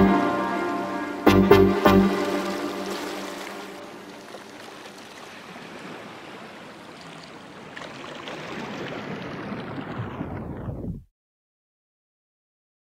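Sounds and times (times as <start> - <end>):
water rushing: 0.0 - 10.7.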